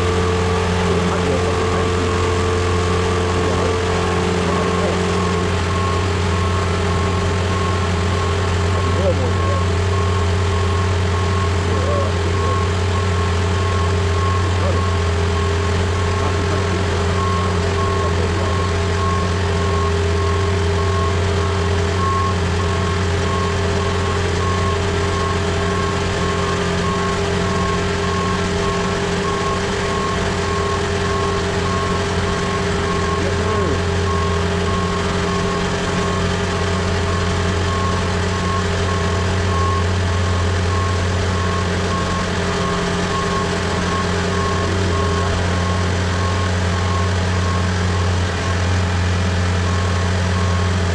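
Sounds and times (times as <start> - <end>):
motion alarm beeping: 0.0 - 48.6
boom lift engine running: 0.0 - 50.9.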